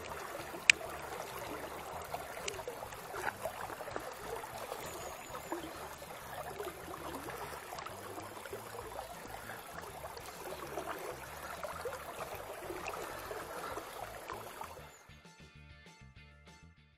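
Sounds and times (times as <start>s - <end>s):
river flowing and gurgling: 0.0s - 15.0s.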